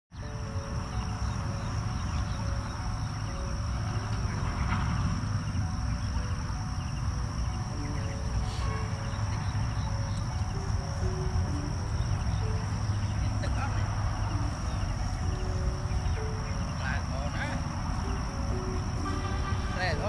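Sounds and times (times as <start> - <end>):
insects droning: 0.1 - 20.0.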